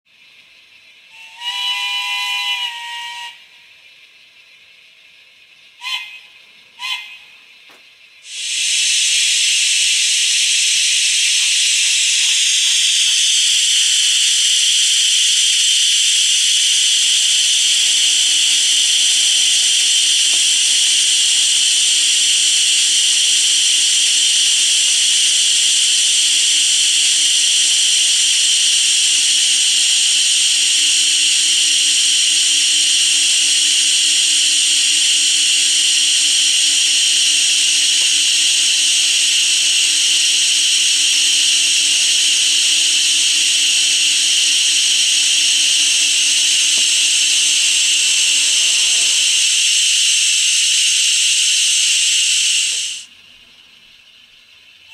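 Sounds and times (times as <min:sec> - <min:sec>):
steady steam hiss from speaker: 0:00.1 - 0:54.9.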